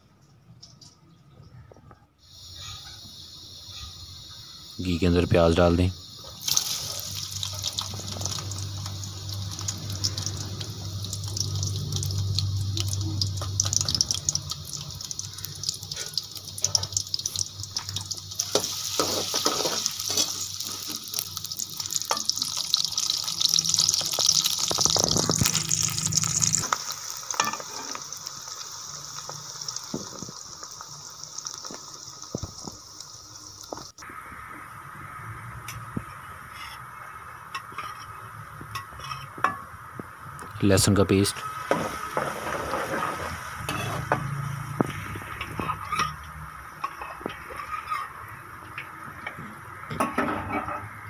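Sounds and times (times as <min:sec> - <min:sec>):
onions sizzling in a pan: 0:02.2 - 0:40.5, 0:41.1 - 0:51.0.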